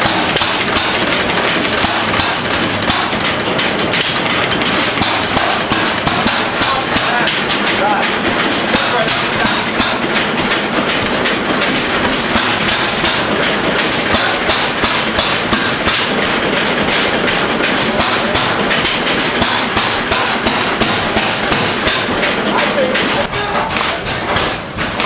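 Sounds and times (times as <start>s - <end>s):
old stationary engine running: 0.0s - 25.0s.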